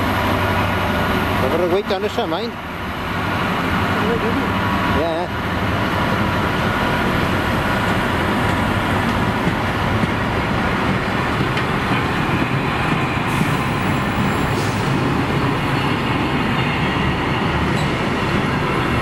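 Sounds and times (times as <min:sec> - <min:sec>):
freight train wheels on rails: 0:00.0 - 0:19.0.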